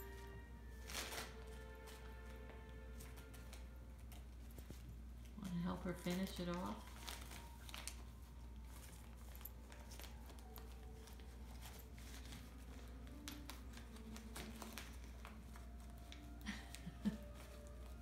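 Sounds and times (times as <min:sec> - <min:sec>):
wrapping paper crinkling: 0:00.0 - 0:18.0.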